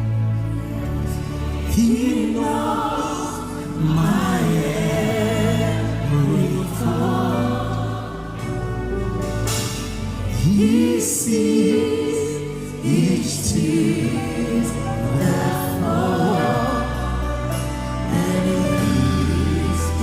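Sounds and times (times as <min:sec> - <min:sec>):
voices singing gospel: 0:00.4 - 0:20.0.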